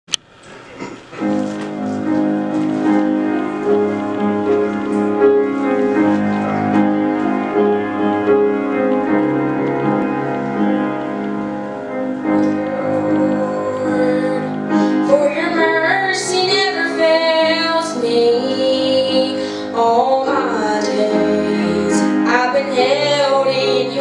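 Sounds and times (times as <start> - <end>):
slow grand piano piece: 0.1 - 24.0.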